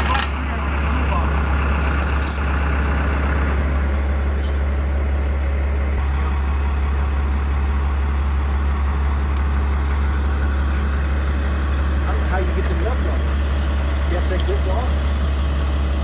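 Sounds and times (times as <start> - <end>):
engine idling with deep hum: 0.0 - 16.0.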